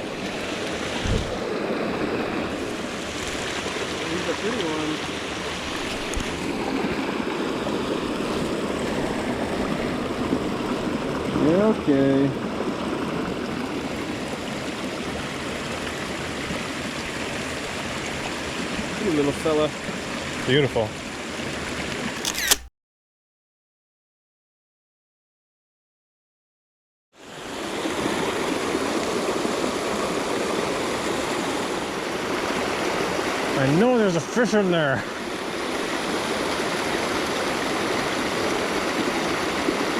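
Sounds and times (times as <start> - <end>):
creek water rushing: 0.0 - 22.4, 27.2 - 39.9.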